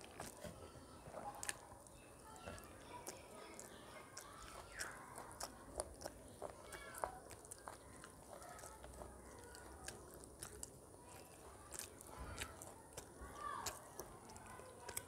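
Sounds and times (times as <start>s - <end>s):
chewing mouth clicks and smacks: 0.0s - 0.5s, 1.1s - 15.0s.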